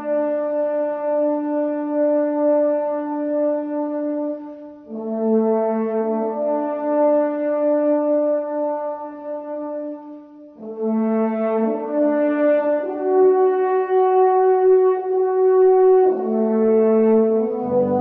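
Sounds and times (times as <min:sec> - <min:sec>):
slow horn-like instrumental chords: 0:00.0 - 0:18.0.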